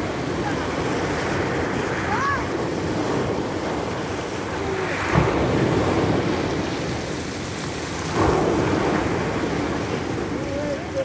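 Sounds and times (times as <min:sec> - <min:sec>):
waves breaking on pebble beach: 0:00.0 - 0:11.0.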